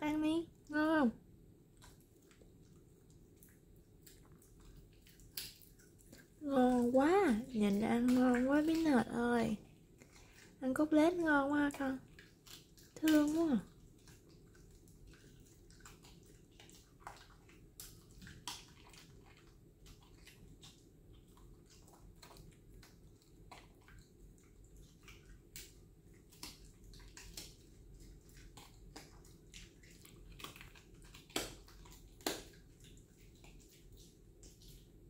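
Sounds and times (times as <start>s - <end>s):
dog licking and chewing: 1.7s - 35.0s.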